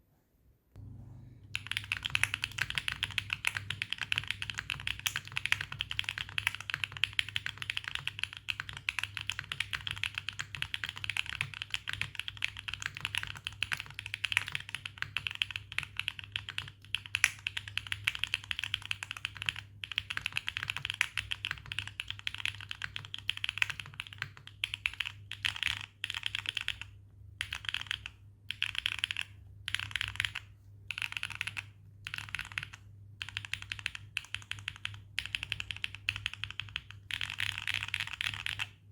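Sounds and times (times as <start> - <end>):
fast typing on mechanical keyboard: 1.5 - 38.9.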